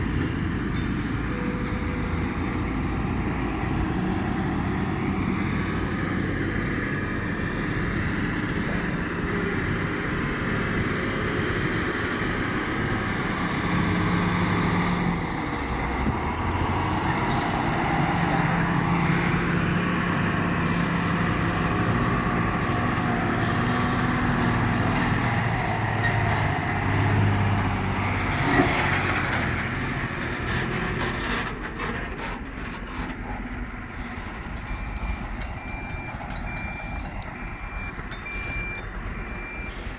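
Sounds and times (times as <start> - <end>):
heavy diesel engines working: 0.0 - 39.9.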